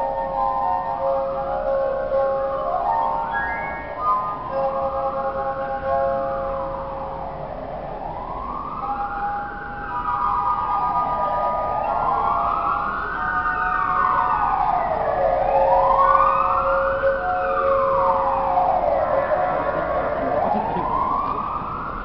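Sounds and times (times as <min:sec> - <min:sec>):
emergency siren wailing: 0:00.0 - 0:22.0.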